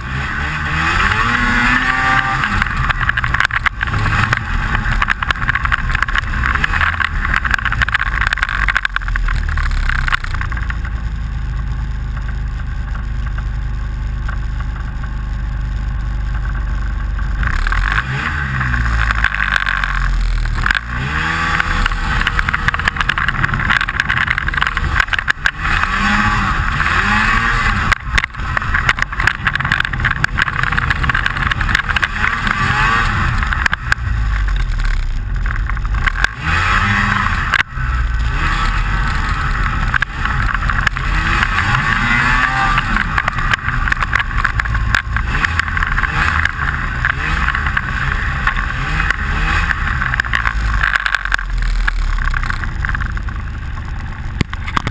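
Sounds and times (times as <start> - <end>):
snowmobile engine revving: 0.0 - 10.4, 17.2 - 52.8.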